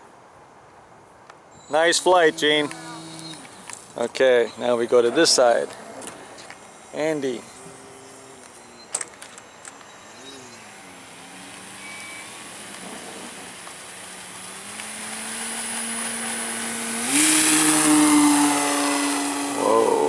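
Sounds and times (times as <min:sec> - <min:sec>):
model airplane engine running: 0:01.7 - 0:20.0.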